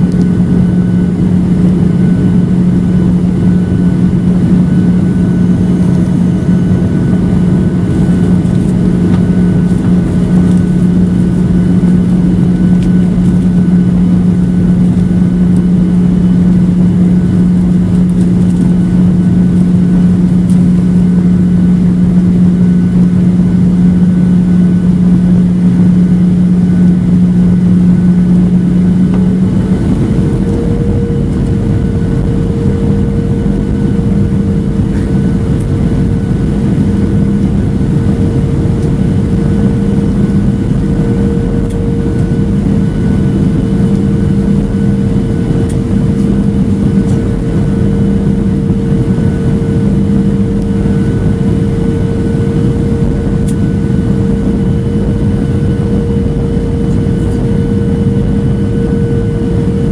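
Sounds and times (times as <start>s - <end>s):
airflow and jet engine drone: 0.0s - 59.9s.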